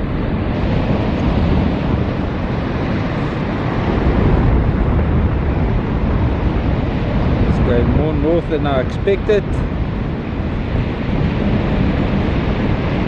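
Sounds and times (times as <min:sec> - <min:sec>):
breaking surf: 0:00.0 - 0:13.0
wind buffeting microphone: 0:00.0 - 0:13.0.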